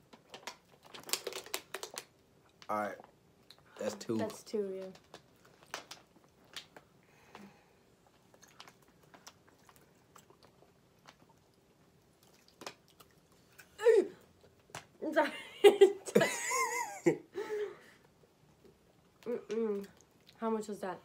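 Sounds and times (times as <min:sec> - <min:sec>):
crunching and chewing: 0:00.0 - 0:15.0, 0:18.0 - 0:20.4.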